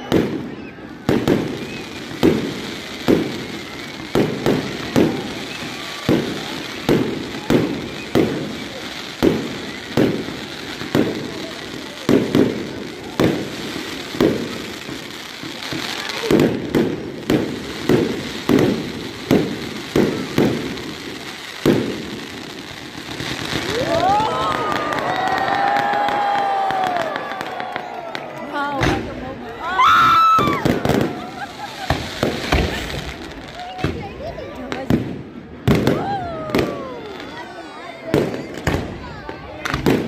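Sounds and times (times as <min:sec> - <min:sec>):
fireworks bangs with echo: 0:00.0 - 0:40.0.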